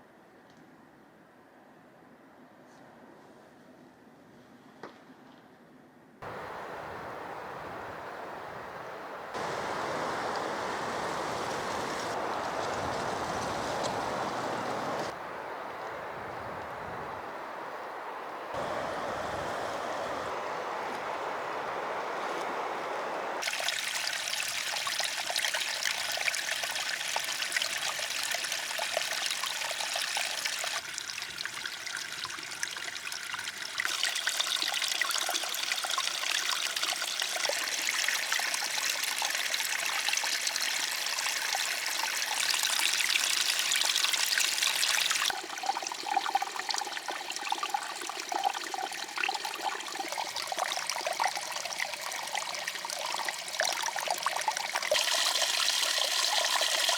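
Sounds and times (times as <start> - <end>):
water trickling: 6.2 - 56.9.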